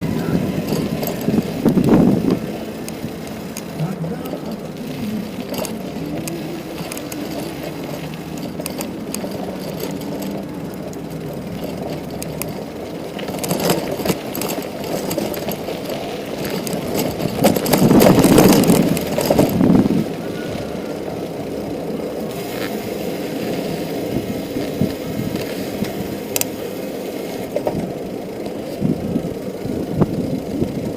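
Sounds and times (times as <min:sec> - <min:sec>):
street traffic engine hum: 0:00.0 - 0:30.9.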